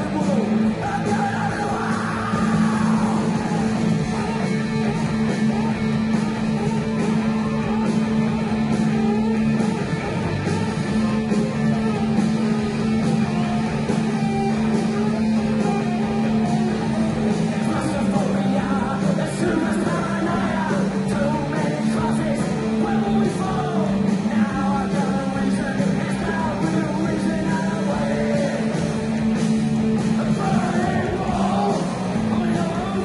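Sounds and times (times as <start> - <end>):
distorted electric guitars: 0.0 - 33.0
punk rock band playing live: 0.0 - 33.0
steady drum beats: 0.0 - 33.0.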